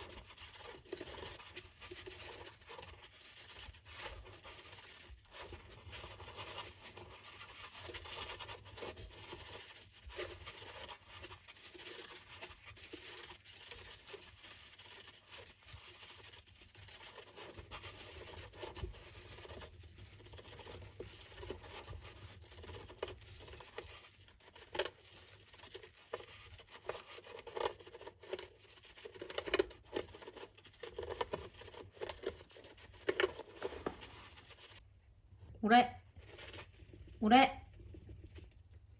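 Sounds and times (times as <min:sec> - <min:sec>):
hamster claws scratching: 0:00.0 - 0:34.8, 0:36.0 - 0:38.9.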